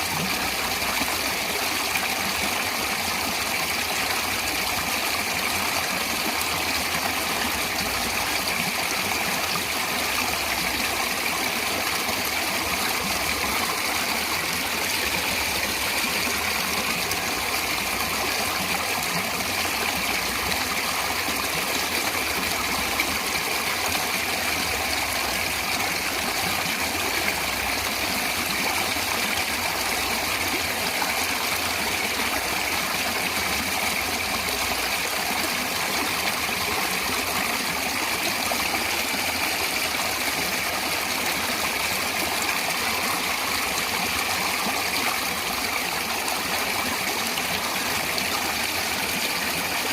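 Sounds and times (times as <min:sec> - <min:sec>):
stream rushing and splashing: 0:00.0 - 0:49.9.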